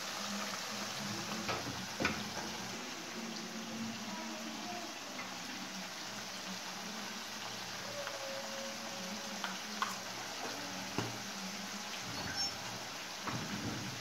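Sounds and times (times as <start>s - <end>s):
meat simmering in a pan: 0.0s - 14.0s.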